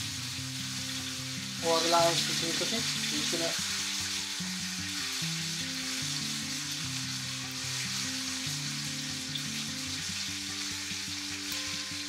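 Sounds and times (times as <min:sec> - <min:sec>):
light background music: 0:00.0 - 0:12.0
meat sizzling in a frying pan: 0:00.0 - 0:12.0.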